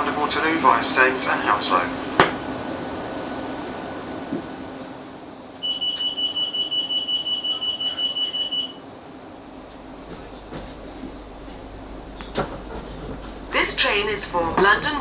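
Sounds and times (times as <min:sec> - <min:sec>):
rapid high train door beeping: 0:00.0 - 0:15.0.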